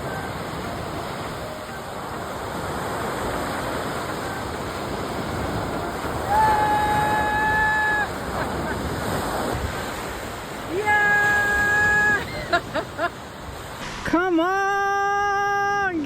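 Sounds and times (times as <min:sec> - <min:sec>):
wind on microphone: 0:00.0 - 0:14.2
ocean surf washing ashore: 0:00.0 - 0:16.0.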